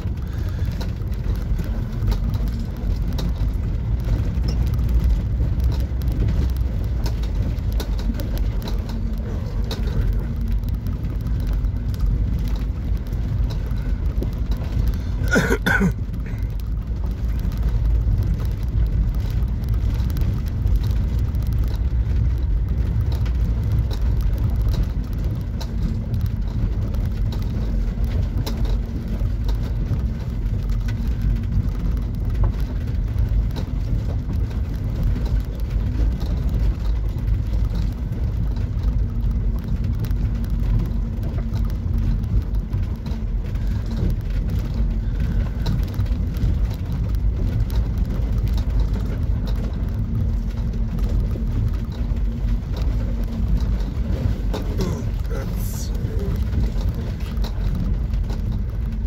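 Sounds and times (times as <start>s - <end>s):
vehicle engine and tyres rumbling: 0.0s - 59.0s
small clicks and knocks: 0.1s - 15.4s, 16.1s - 55.3s.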